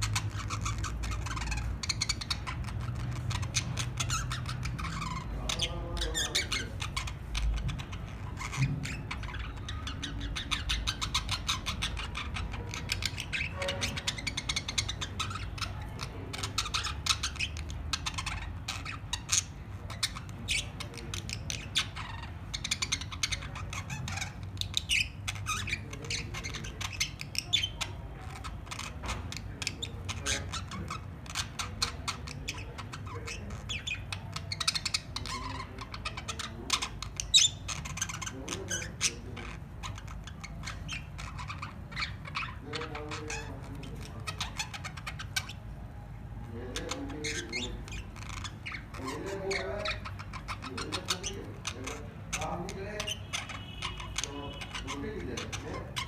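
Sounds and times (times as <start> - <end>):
budgerigars chattering: 0.0 - 56.0
low background hum: 0.0 - 56.0.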